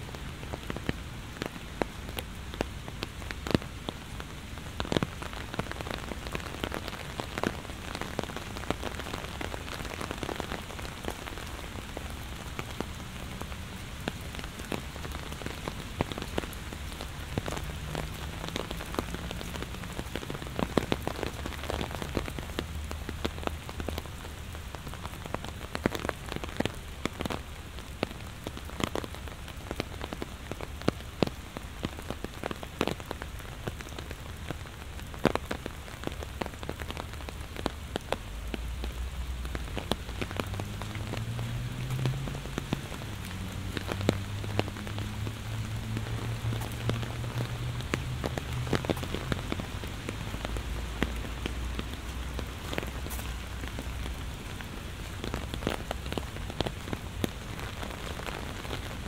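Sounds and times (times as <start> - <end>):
heavy rain: 0.0 - 59.0
raindrops splatting: 0.0 - 59.0.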